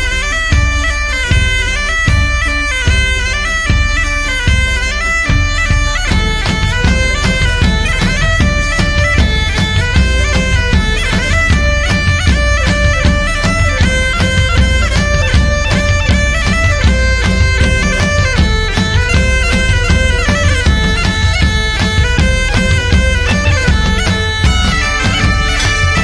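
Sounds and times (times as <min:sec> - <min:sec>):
droning pipe melody: 0:00.0 - 0:26.0
drum beat: 0:00.0 - 0:26.0.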